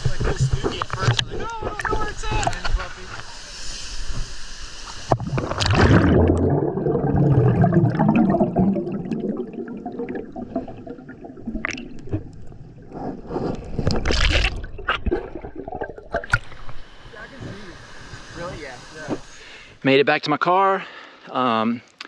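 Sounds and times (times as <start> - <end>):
water sloshing and gurgling: 0.0 - 3.3, 4.0 - 19.8.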